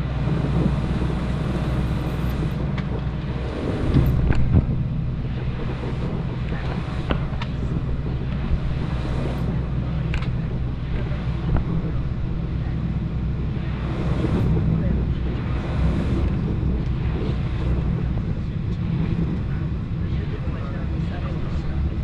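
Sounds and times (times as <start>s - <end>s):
airplane engines rumbling in cabin: 0.0s - 22.0s.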